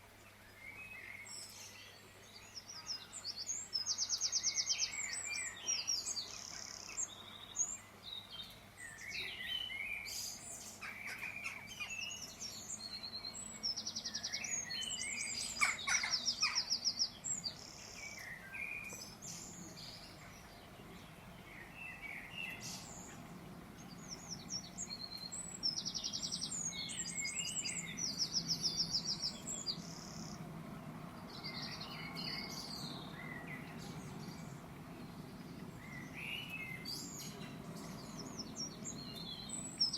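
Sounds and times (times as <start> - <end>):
lower bird chirps: 0.0 - 39.9.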